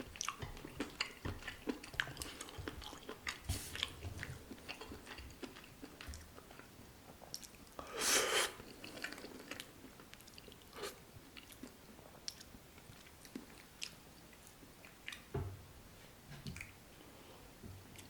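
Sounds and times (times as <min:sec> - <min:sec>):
person chewing noodles: 0:00.0 - 0:15.3.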